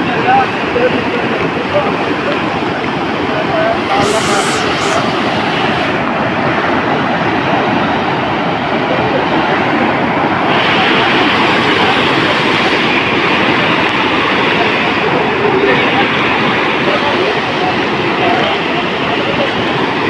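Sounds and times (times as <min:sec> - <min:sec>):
floodwater rushing: 0:00.1 - 0:20.0.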